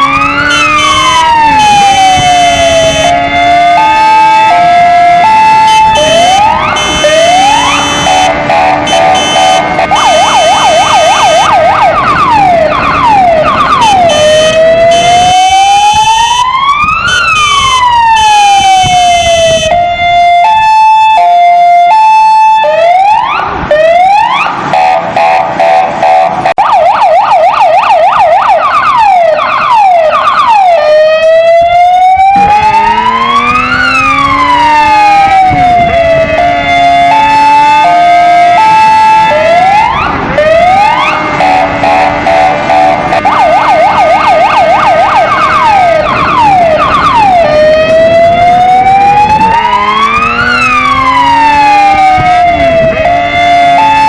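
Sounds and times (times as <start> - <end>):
electronic siren cycling tones: 0.0 - 54.0.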